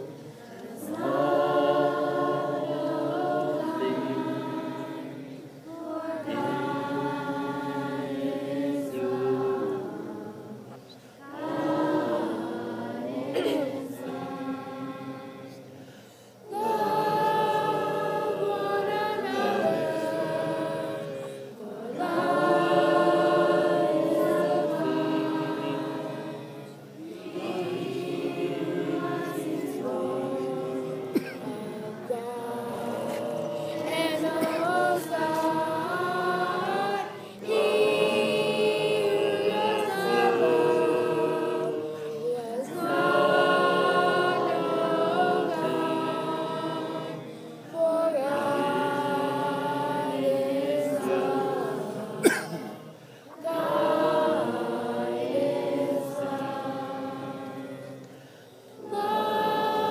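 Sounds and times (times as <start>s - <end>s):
group singing worship song: 0.0s - 59.9s.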